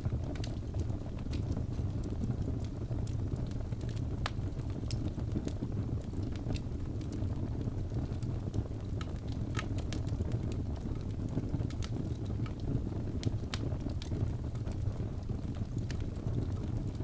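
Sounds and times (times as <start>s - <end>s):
fire flames rumbling: 0.0s - 17.0s
wood fire crackling and popping: 0.0s - 17.0s.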